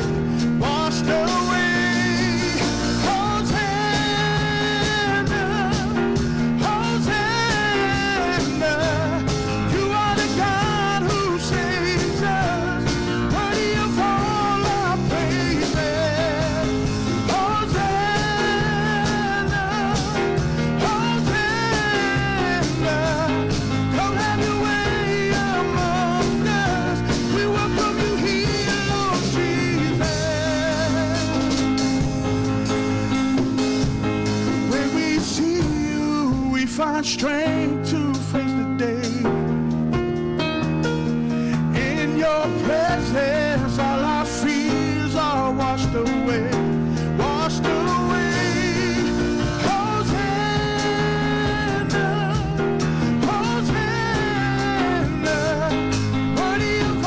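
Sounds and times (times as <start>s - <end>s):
person singing: 0.0s - 39.6s, 41.4s - 57.0s
band playing: 0.0s - 57.0s.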